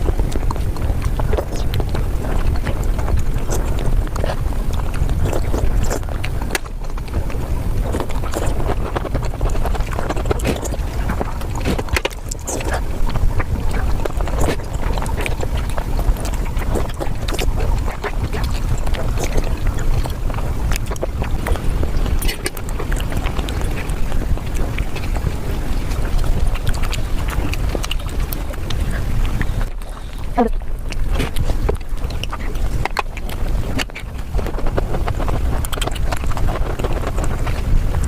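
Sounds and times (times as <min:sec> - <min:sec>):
person chewing and smacking: 0:00.0 - 0:38.0
steady low rumble: 0:00.0 - 0:38.0.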